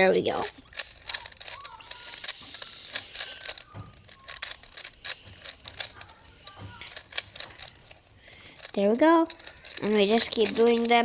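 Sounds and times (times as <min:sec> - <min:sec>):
faint voices: 0:00.0 - 0:11.0
puzzle cube clicking: 0:00.0 - 0:11.0.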